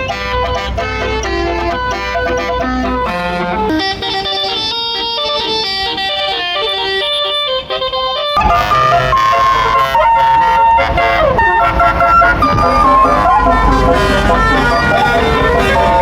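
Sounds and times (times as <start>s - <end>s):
bus engine rumble: 0.0s - 16.0s
bus horn playing a tune: 0.0s - 16.0s.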